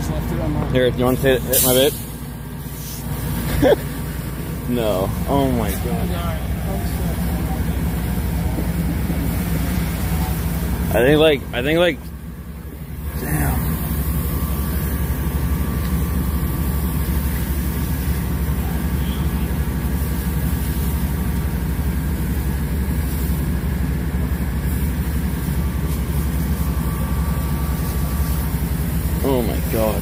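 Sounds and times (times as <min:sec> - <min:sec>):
fire truck engine idling: 0:00.0 - 0:30.0.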